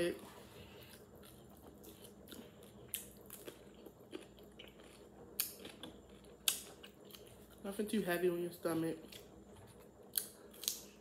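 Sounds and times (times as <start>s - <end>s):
person chewing cucumber: 0.3s - 7.6s, 9.0s - 11.0s.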